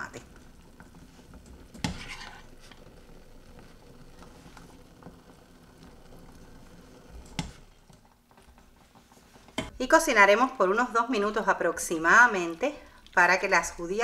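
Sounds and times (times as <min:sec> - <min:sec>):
sauce sizzling faintly: 0:00.0 - 0:14.0.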